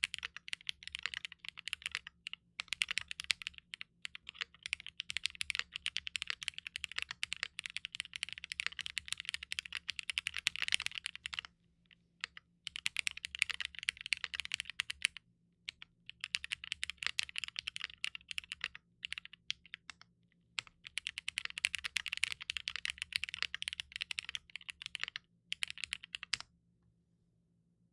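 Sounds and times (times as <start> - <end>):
fast typing on mechanical keyboard: 0.0 - 11.5, 12.2 - 20.0, 20.6 - 26.4.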